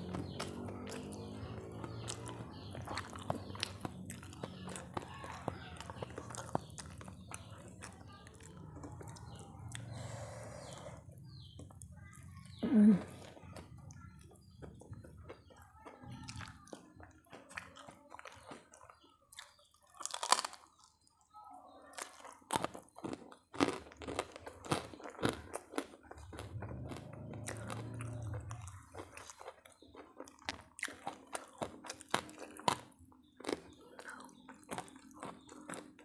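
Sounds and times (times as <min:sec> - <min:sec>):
crunching and chewing crispy food: 0:00.0 - 0:36.0.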